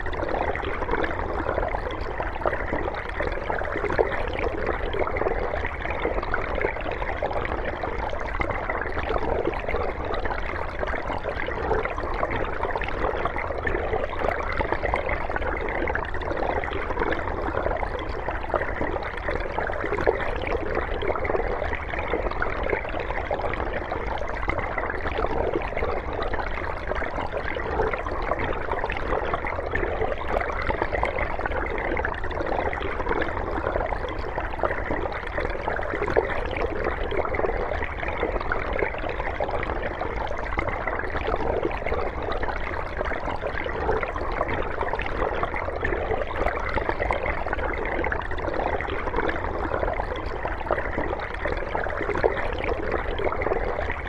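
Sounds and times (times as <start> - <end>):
underwater moving water: 0.0 - 54.0.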